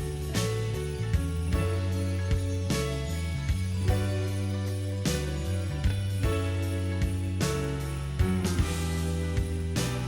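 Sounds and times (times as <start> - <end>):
sleigh bells ringing in music: 0.0 - 10.0
steady bass line: 0.0 - 10.0.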